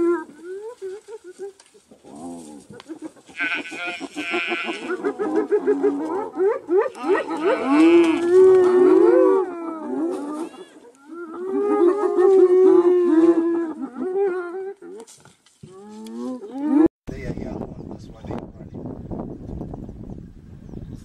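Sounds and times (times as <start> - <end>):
wavering animal calls: 0.0 - 16.9.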